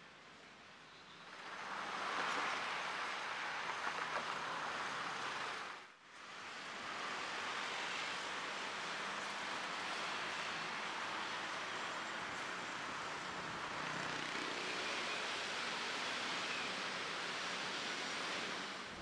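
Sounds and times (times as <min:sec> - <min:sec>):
passing cars and motorbikes: 0:01.2 - 0:05.8, 0:06.4 - 0:19.0.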